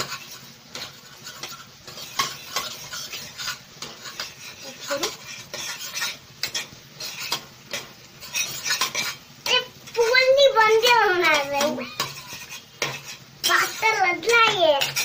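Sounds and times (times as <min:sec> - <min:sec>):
light sizzle: 0:00.0 - 0:15.0
spatula scraping a pan: 0:00.0 - 0:15.0.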